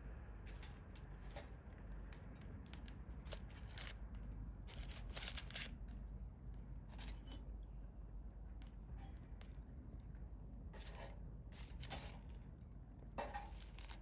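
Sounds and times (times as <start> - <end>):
fire embers crackling: 0.0 - 14.0.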